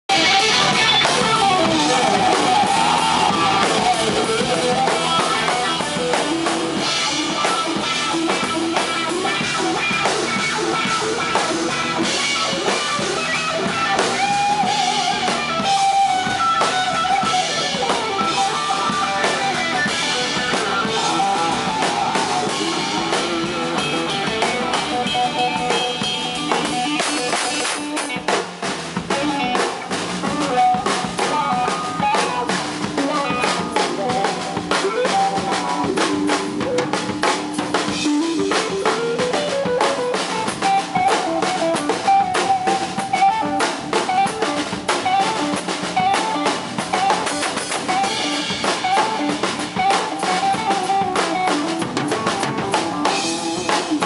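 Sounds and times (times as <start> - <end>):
electric guitar lead: 0.0 - 54.0
live rock band playing: 0.0 - 54.0.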